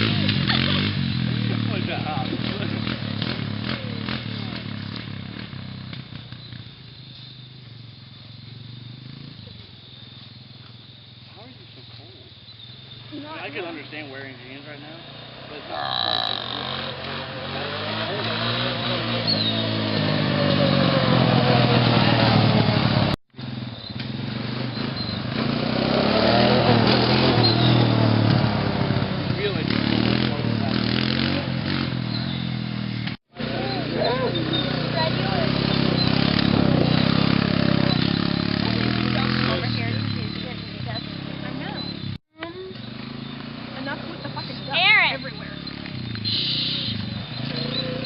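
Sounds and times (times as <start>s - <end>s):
small vehicle engine running: 0.0s - 48.0s.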